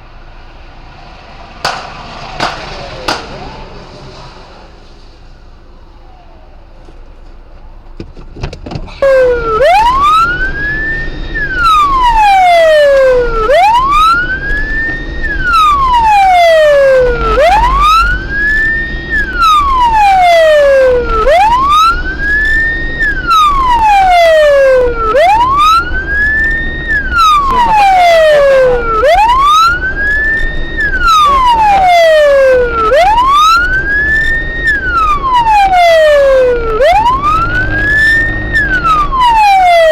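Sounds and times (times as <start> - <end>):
emergency siren wailing: 0.0 - 7.9, 8.9 - 39.9.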